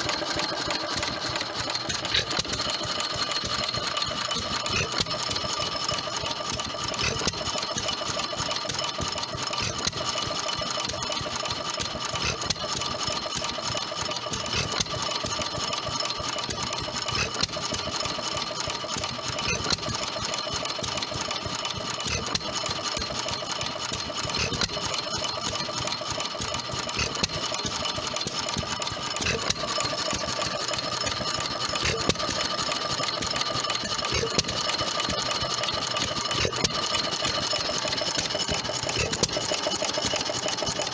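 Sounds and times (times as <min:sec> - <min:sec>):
stationary engine clattering: 0:00.0 - 0:40.9.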